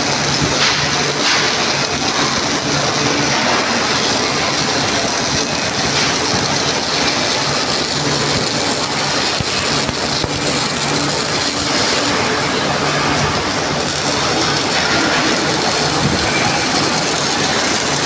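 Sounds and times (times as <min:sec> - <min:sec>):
welding rig hissing: 0:00.0 - 0:18.0.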